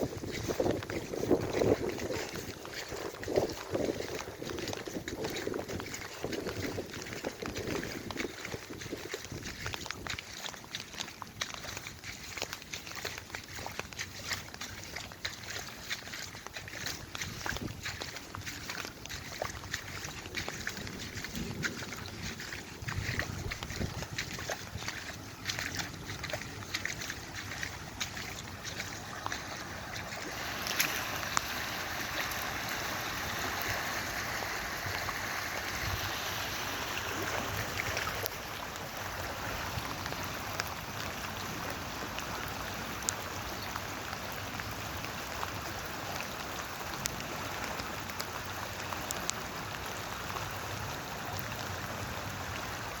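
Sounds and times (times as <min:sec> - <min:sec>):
floodwater rushing: 0:00.0 - 0:53.0
small water splashes: 0:00.0 - 0:53.0.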